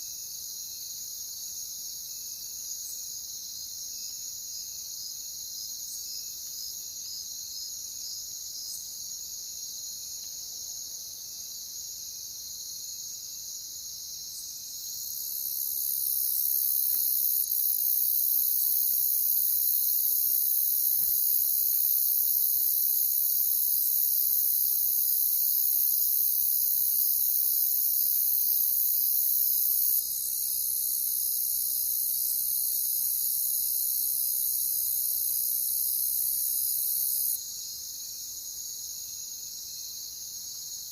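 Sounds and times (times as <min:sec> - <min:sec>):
crickets chirping: 0:00.0 - 0:40.9
shrill insect trill: 0:00.7 - 0:40.9.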